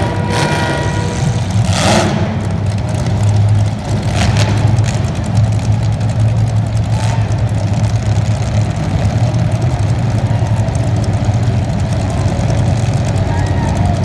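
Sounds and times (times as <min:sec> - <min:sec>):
race car engine low drone: 0:00.0 - 0:14.0.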